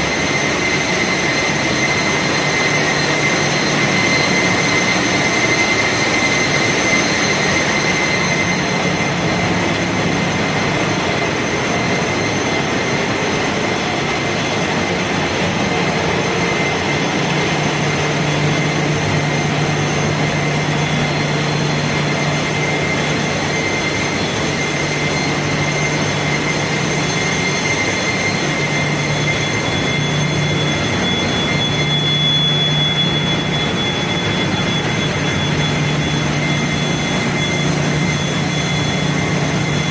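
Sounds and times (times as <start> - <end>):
engine room machinery din: 0.0 - 39.9
thin high whine: 0.0 - 39.9.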